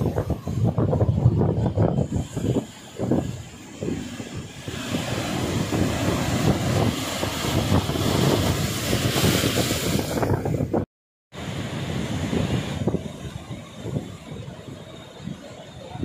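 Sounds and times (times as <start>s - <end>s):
surf washing on beach: 0.0s - 10.8s, 11.4s - 16.0s
wind buffeting microphone: 0.0s - 16.0s.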